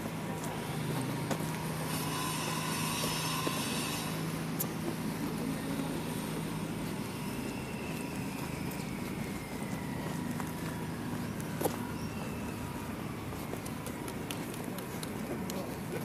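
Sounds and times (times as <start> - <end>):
vehicle engine humming: 0.0 - 16.0
vehicle passing hiss: 0.4 - 13.3.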